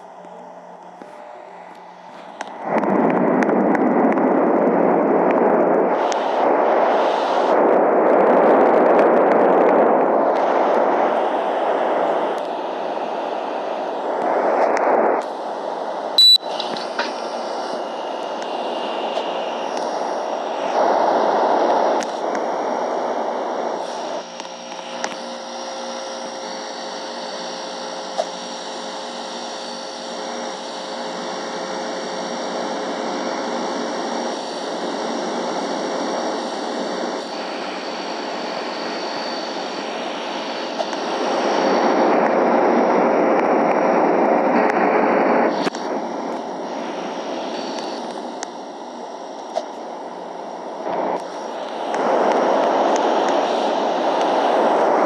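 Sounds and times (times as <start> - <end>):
air conditioner rushing air: 0.0 - 55.0
multi-tone hum: 0.0 - 55.0.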